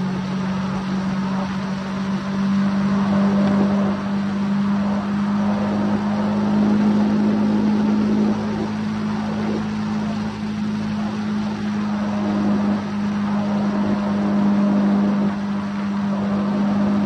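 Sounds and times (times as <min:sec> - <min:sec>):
motorcycle engine droning: 0:00.0 - 0:17.0
wind buffeting microphone: 0:00.0 - 0:17.0.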